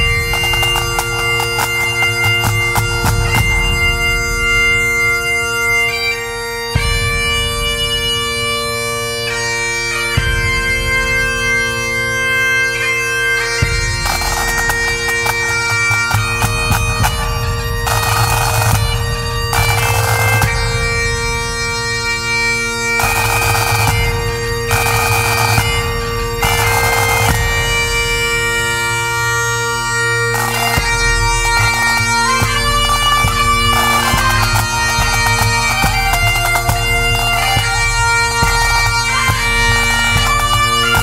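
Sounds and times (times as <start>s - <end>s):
drums: 0.0s - 8.5s, 10.0s - 12.1s, 13.5s - 29.2s, 30.3s - 41.0s
bagpipe tune with drone: 0.0s - 41.0s.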